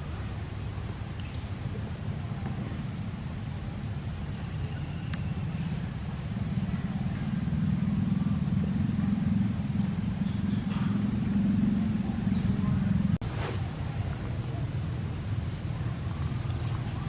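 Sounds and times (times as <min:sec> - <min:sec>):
motor engine droning: 0:01.6 - 0:17.0.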